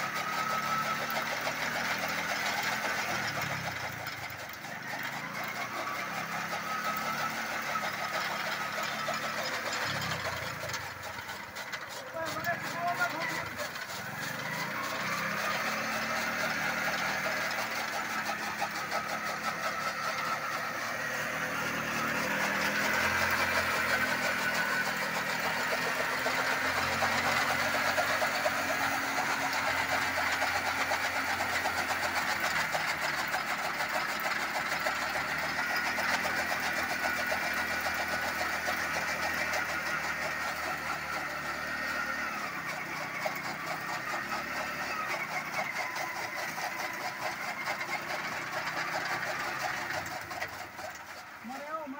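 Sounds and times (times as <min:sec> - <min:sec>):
motorcycle engine running under load: 0:00.0 - 0:51.9.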